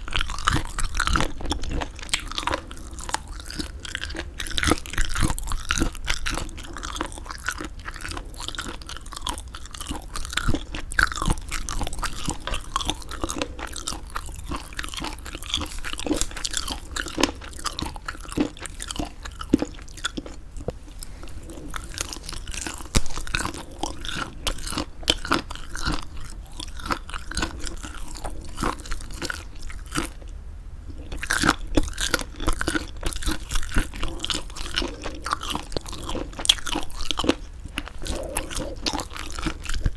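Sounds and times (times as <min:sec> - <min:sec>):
chewing close to microphone: 0:00.0 - 0:39.9.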